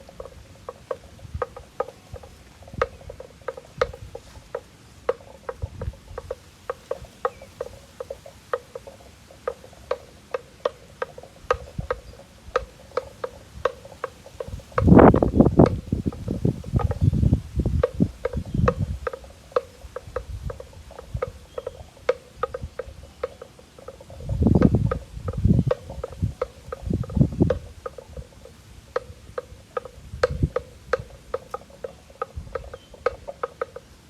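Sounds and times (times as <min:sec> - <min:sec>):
cow chewing grass: 0:00.0 - 0:34.0.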